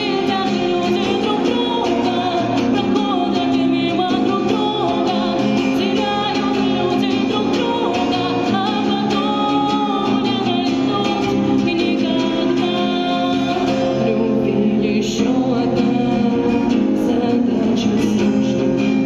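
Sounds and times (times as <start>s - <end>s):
guitar: 0.0s - 19.0s
woman singing pop ballad: 0.0s - 19.0s.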